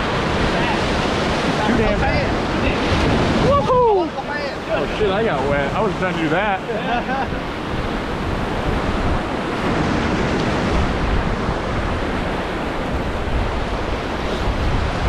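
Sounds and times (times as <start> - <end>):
whitewater rushing: 0.0 - 15.0
wind on microphone: 0.0 - 15.0.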